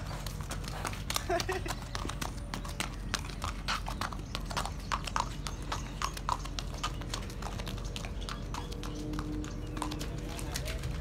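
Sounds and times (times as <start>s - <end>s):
hooves clip-clopping on concrete: 0.0s - 11.0s.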